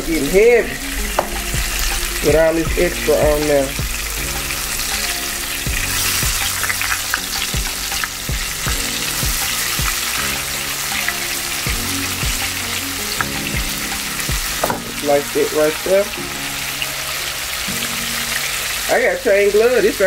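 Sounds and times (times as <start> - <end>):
hot oil sizzling and crackling: 0.0 - 20.0.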